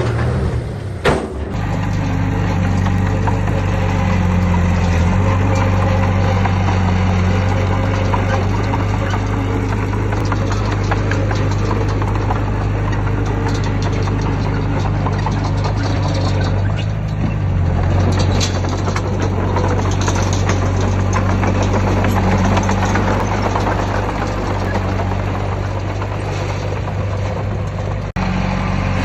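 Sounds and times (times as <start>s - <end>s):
heavy diesel engine droning: 0.0s - 29.0s
machinery clanking and rattling: 0.0s - 29.0s.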